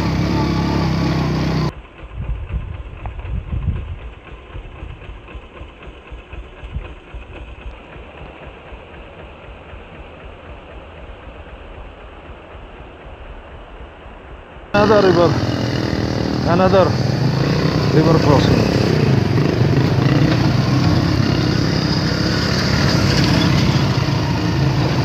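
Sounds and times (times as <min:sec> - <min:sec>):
motorcycle engine idling: 0:00.0 - 0:13.4, 0:14.8 - 0:25.0
motorcycle riding on dirt: 0:00.0 - 0:14.0, 0:14.7 - 0:25.0.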